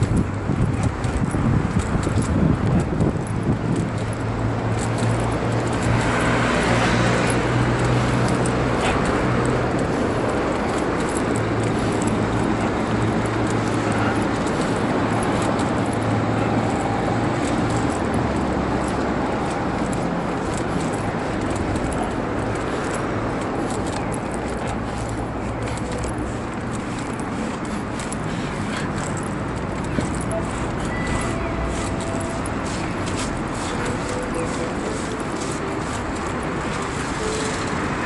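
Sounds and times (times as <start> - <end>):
road traffic hum: 0.0 - 38.0
wheelchair rattling on pavement: 0.0 - 38.0.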